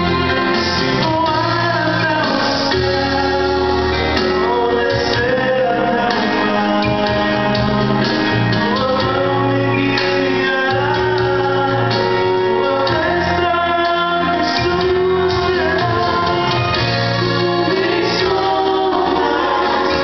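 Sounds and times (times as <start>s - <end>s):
instrumental accompaniment: 0.0s - 20.0s
man singing into a microphone: 0.0s - 20.0s.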